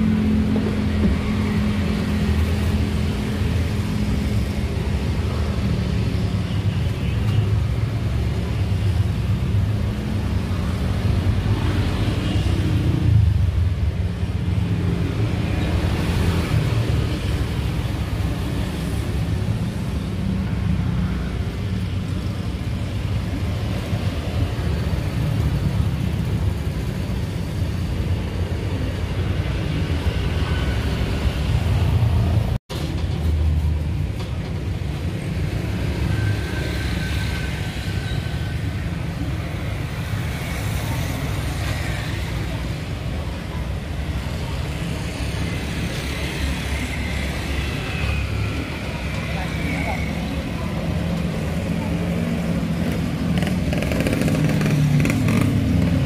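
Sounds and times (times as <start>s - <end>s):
road traffic rumble: 0.0s - 56.0s
vehicles passing: 0.0s - 56.0s.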